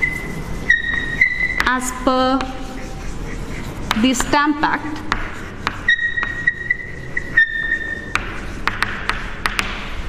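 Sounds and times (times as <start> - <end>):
chalk scratching on chalkboard: 0.0 - 10.0.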